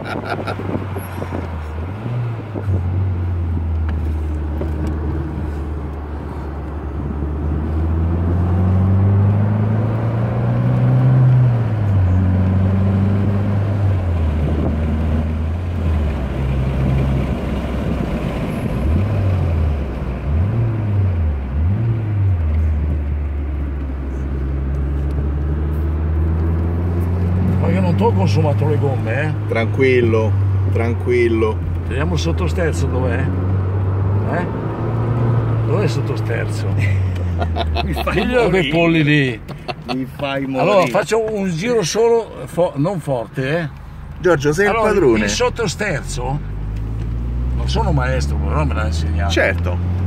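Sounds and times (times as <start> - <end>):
car engine revving in cabin: 0.0 - 50.0.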